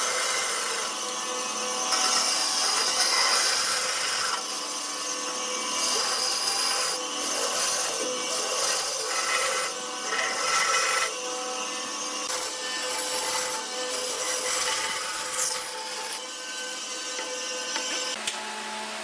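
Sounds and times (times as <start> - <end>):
tool rasping wood: 0.0 - 18.2.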